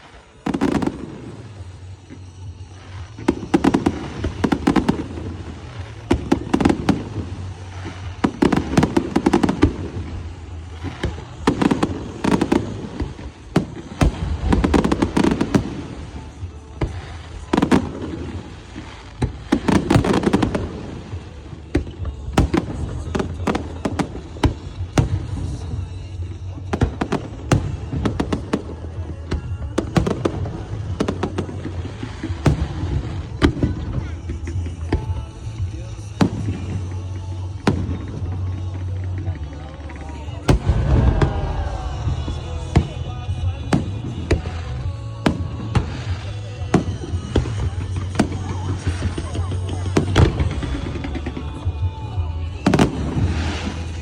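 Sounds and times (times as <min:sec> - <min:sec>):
deep fireworks booms: 0:00.0 - 0:54.0
fireworks bangs and crackles: 0:00.0 - 0:54.0.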